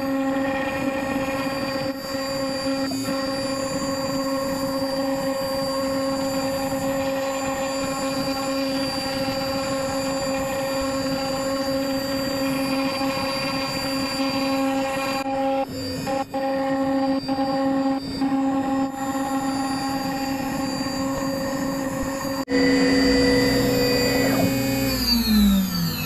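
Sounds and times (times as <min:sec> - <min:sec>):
router spindle running: 0:00.0 - 0:26.0.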